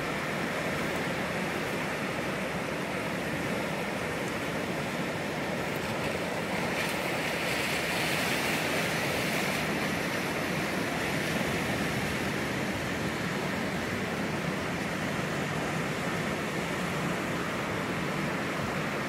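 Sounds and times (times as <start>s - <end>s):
ocean surf washing over rocks: 0.0s - 19.0s.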